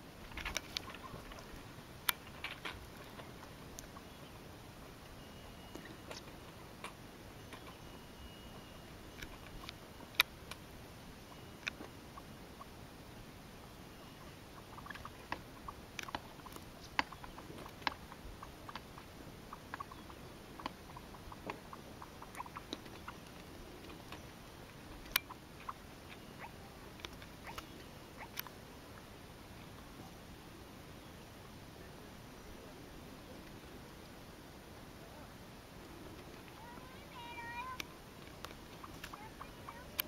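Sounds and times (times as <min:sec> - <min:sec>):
low steady hiss: 0:00.0 - 0:40.0.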